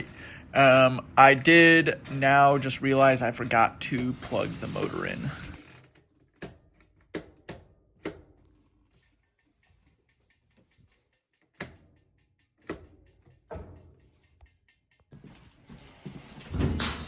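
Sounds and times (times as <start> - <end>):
washing machine parts clicking: 0.0 - 15.1.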